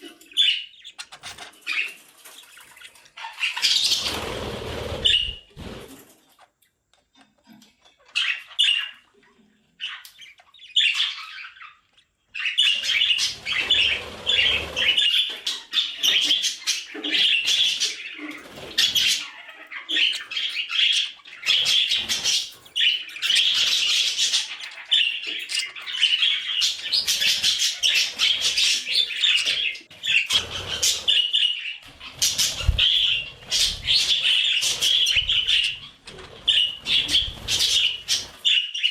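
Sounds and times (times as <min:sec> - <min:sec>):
budgerigars chattering: 0:00.0 - 0:05.5, 0:08.1 - 0:38.9.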